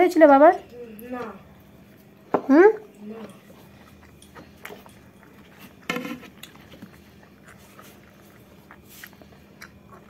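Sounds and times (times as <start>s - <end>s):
soft chewing: 0.5s - 10.0s.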